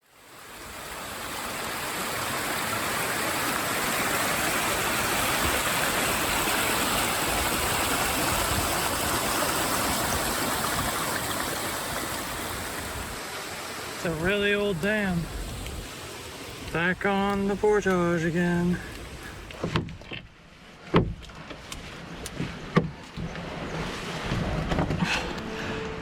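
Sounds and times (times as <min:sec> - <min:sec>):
flowing stream water: 0:00.0 - 0:26.0.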